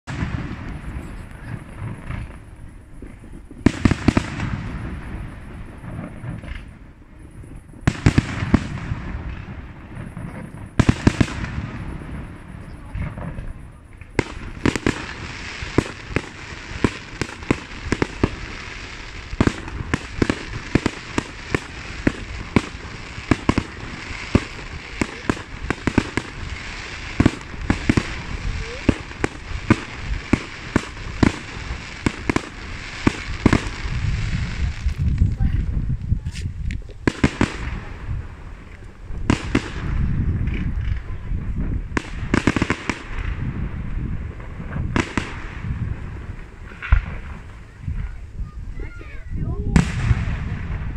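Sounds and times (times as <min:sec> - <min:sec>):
firework pops and crackles: 0:00.0 - 0:50.9.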